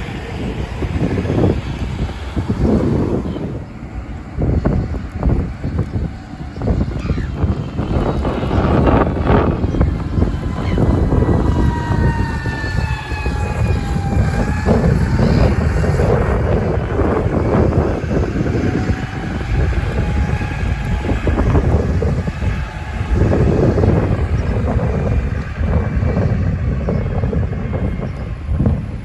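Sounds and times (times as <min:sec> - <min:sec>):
bus passing with drivetrain whine: 0:00.0 - 0:29.0
heavy low rumble: 0:00.0 - 0:29.0.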